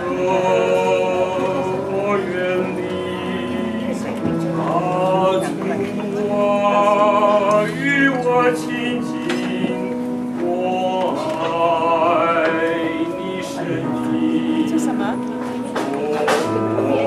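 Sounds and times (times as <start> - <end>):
electronic keyboard chords: 0.0 - 17.0
man singing: 0.0 - 17.0.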